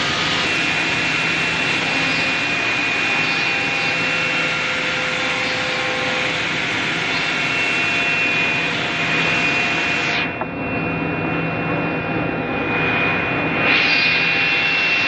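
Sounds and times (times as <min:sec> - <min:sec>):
router machining wood: 0:00.0 - 0:10.4, 0:12.8 - 0:15.0.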